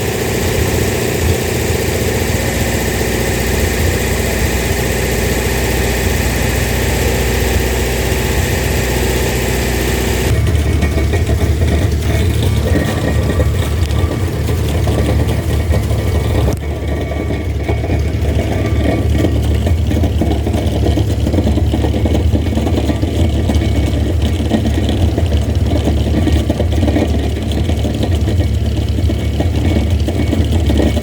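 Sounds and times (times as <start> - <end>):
engine running low: 0.0 - 31.0.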